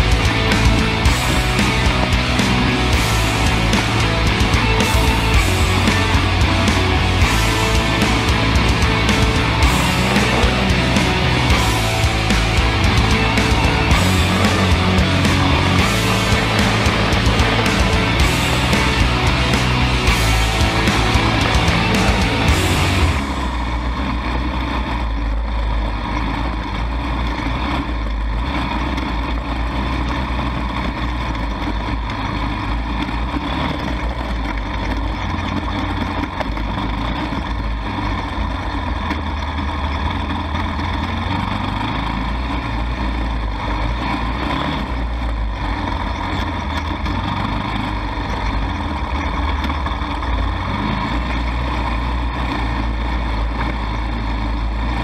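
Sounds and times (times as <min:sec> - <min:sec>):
atv engine rumbling: 0:00.0 - 0:55.0.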